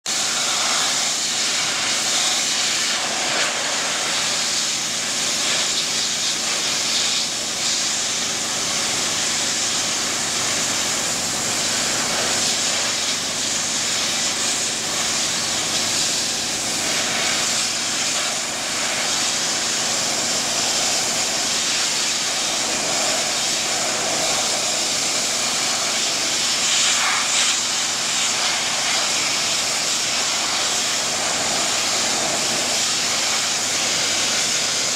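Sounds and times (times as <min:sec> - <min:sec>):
pressure washer spraying steel grating: 0:00.1 - 0:34.9.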